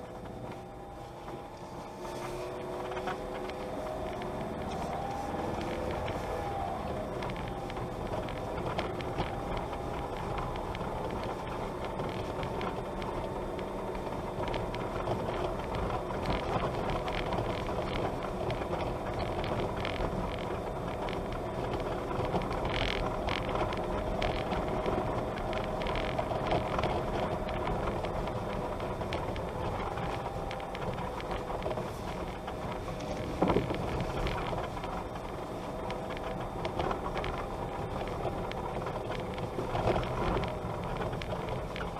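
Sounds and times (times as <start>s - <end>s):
tyre noise on dirt road: 0.0s - 41.9s
vehicle engine drone: 0.0s - 41.9s.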